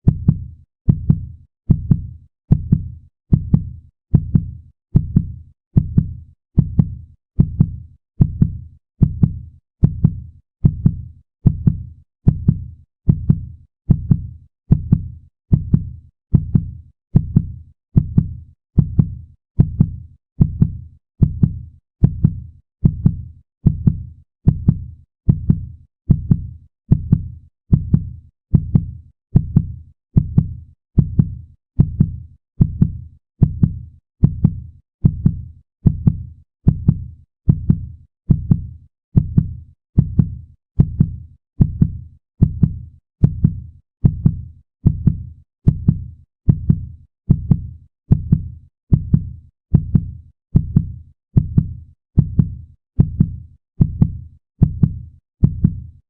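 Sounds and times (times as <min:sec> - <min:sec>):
human heartbeat: 0:00.0 - 0:55.9.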